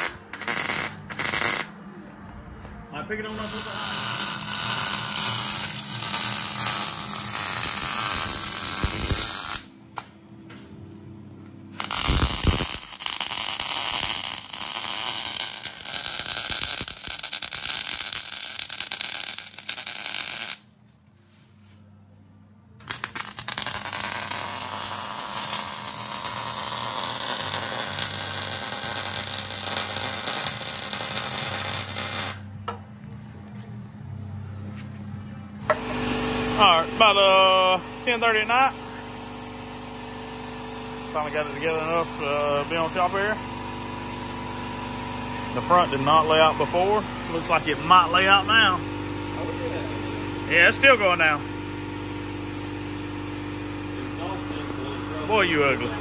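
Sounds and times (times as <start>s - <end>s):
welder arc crackling: 0.0s - 1.8s, 3.3s - 10.1s, 11.8s - 20.7s, 22.8s - 32.5s, 35.7s - 53.8s.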